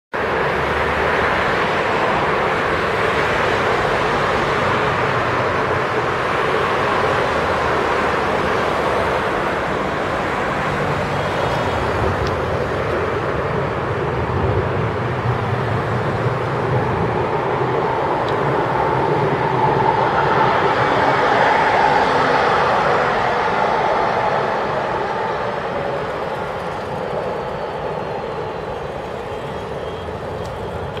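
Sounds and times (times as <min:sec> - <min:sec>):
road traffic: 0:00.1 - 0:31.0.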